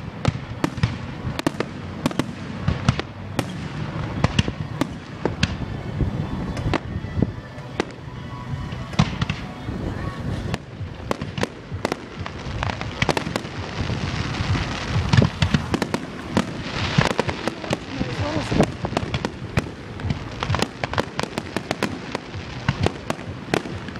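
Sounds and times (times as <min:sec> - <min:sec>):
fireworks bangs and crackling: 0:00.0 - 0:23.9.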